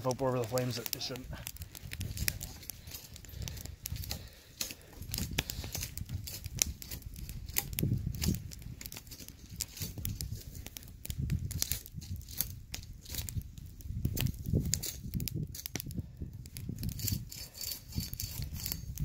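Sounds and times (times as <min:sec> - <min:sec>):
cord rustling and crinkling: 0:00.0 - 0:15.9.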